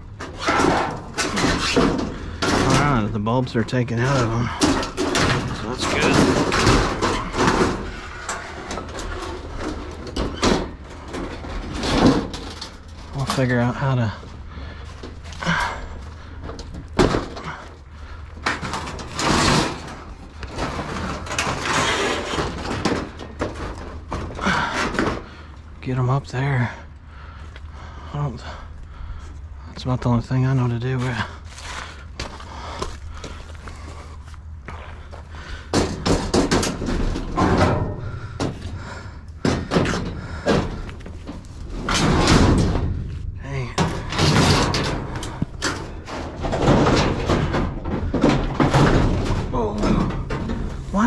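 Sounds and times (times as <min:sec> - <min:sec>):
objects clattering and scraping: 0:00.0 - 0:51.0.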